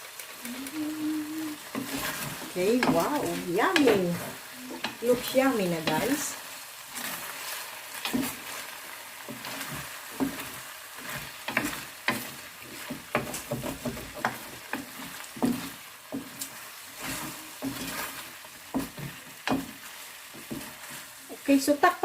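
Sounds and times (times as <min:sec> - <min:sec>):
stir fry sizzling in a pan: 0:00.0 - 0:22.0
spatula scraping a pan: 0:01.6 - 0:21.5.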